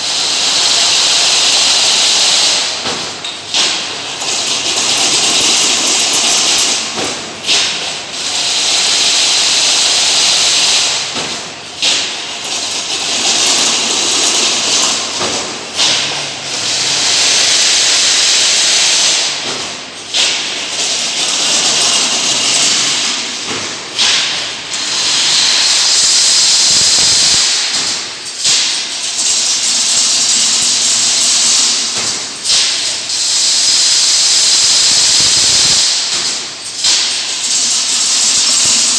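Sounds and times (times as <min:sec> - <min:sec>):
weaving machine hissing: 0:00.0 - 0:38.9
machine clacking: 0:00.7 - 0:38.9.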